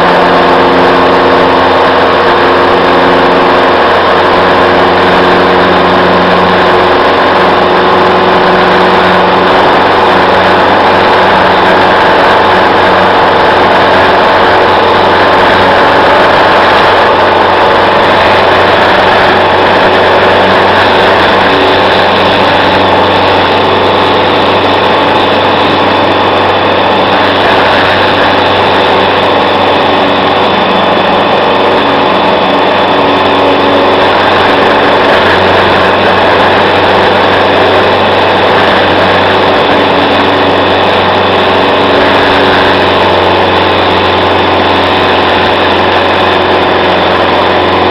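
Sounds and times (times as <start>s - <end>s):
propeller plane engine running: 0.0s - 47.9s.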